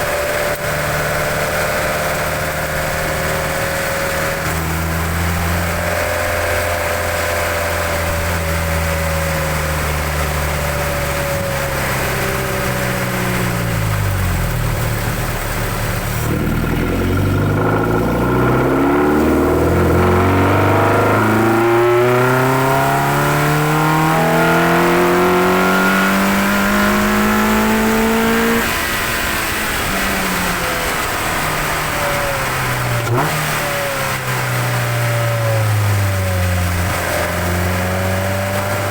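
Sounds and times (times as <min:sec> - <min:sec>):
car engine intake noise revving: 0:00.0 - 0:38.9.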